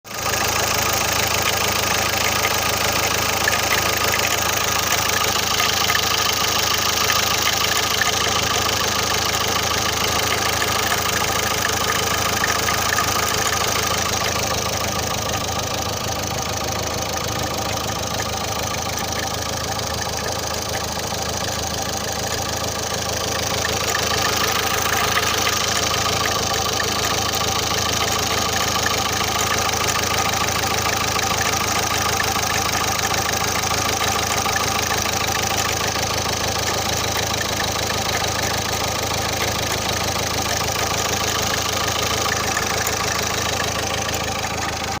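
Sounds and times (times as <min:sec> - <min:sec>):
diesel engine idling: 0:00.0 - 0:45.0
fast ticking: 0:00.1 - 0:45.0.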